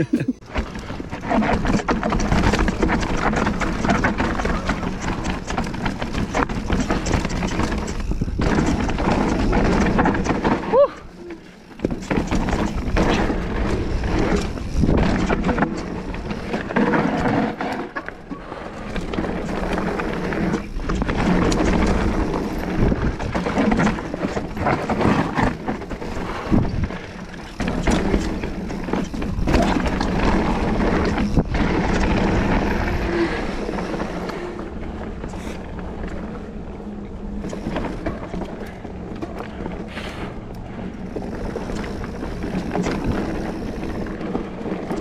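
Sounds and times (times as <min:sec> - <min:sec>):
bike rattling and knocking: 0:00.4 - 0:45.0
bike tyres rolling on dirt: 0:00.4 - 0:45.0.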